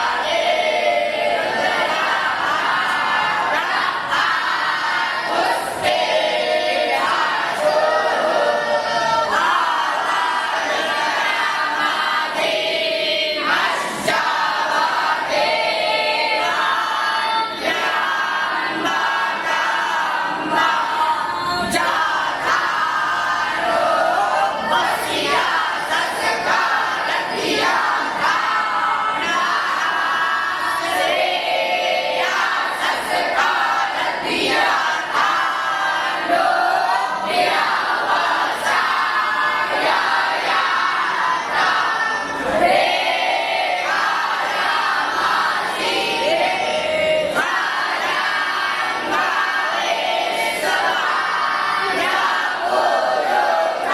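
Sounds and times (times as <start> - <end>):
many voices chanting: 0.0 - 53.9.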